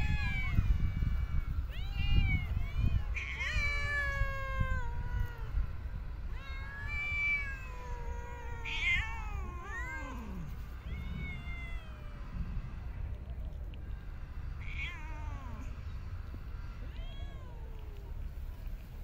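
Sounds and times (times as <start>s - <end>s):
cats meowing: 0.0s - 19.0s.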